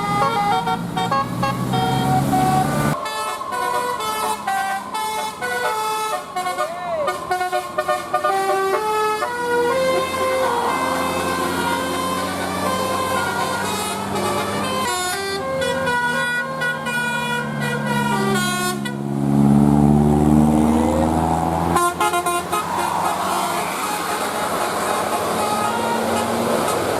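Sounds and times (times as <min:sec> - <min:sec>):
musical air horn tune: 0:00.0 - 0:19.1, 0:21.7 - 0:24.3.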